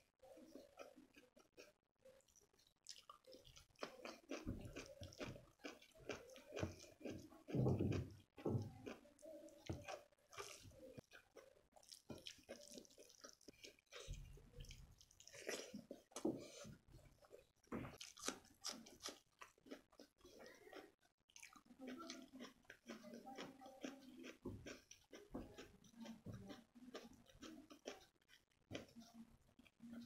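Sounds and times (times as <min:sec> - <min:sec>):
chewing: 0:00.2 - 0:30.0.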